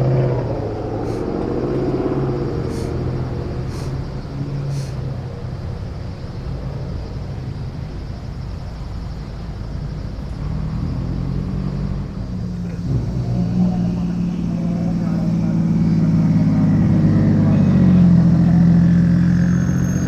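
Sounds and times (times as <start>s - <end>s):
car engines running at low revs: 0.0s - 20.0s.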